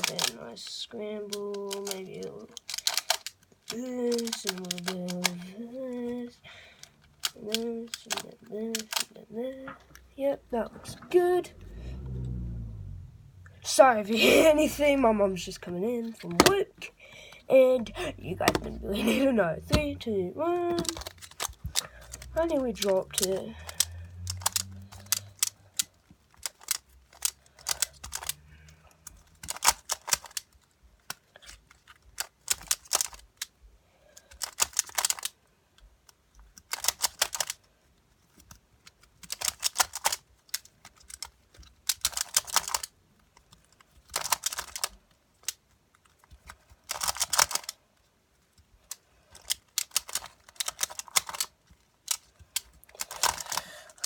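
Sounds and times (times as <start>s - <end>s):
plastic puzzle clacking turns: 0.0s - 54.0s.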